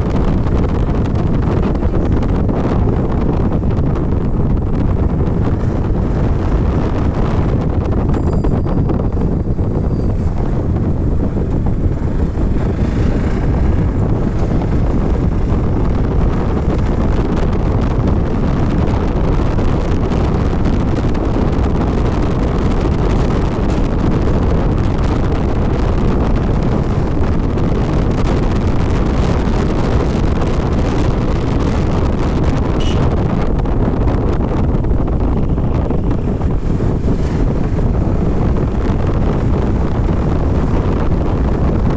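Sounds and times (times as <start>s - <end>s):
motorcycle engine: 0.0s - 41.9s
wind rumble on microphone: 0.0s - 41.9s.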